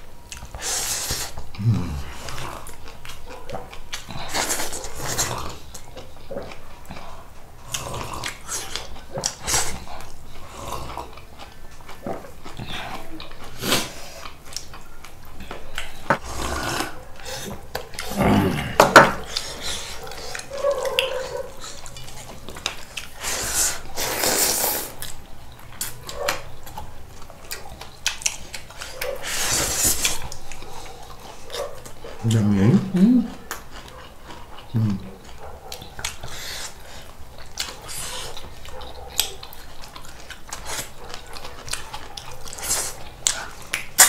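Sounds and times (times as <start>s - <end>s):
person chewing and crunching food: 0.0s - 44.0s.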